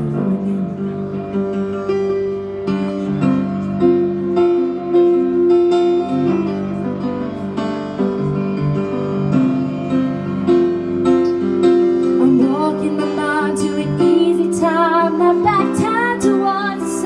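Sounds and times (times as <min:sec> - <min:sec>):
slow solo piano ballad: 0:00.0 - 0:17.0.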